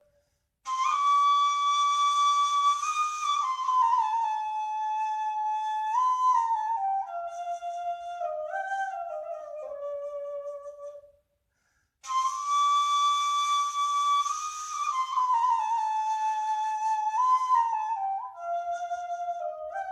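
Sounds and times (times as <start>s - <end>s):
flute playing slow melody: 0.7s - 11.1s, 12.0s - 19.9s.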